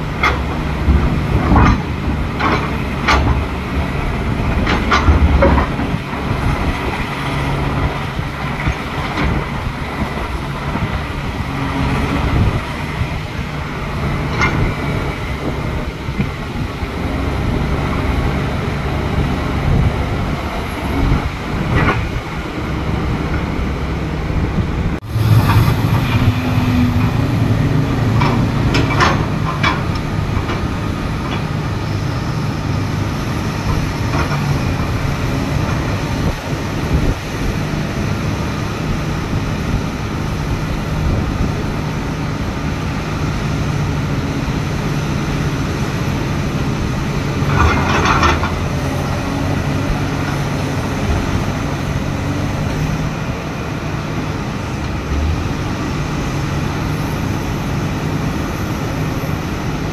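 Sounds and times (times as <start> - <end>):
excavator diesel engine: 0.0 - 59.9.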